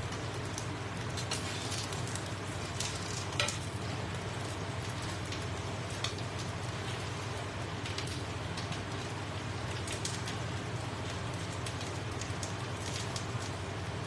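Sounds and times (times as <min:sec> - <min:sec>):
batter sizzling in a pan: 0:00.0 - 0:14.0.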